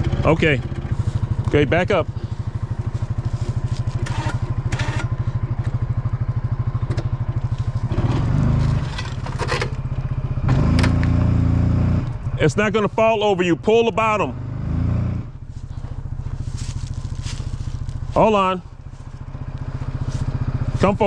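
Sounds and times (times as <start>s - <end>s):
utility vehicle engine putter: 0.0s - 11.4s, 15.4s - 21.0s.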